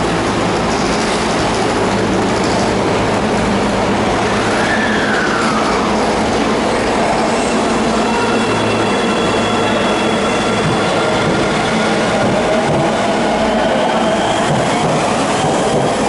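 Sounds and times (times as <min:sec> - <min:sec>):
subway train wheels rumbling on rail: 0:00.0 - 0:16.0.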